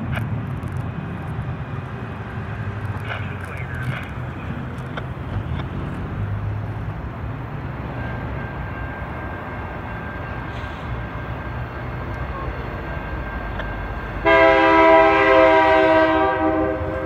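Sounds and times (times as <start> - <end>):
diesel locomotive rumble: 0.0 - 17.0
passing road traffic: 0.0 - 17.0.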